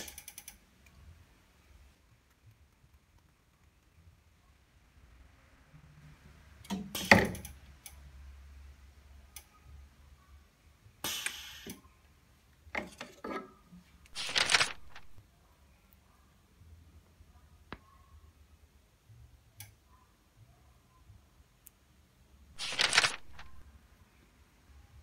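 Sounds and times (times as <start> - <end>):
faint low hum: 0.0 - 11.1, 11.7 - 25.0.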